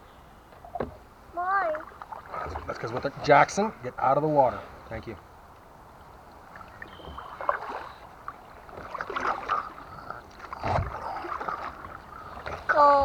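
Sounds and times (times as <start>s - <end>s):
kayak paddle splashing: 0.5s - 13.0s.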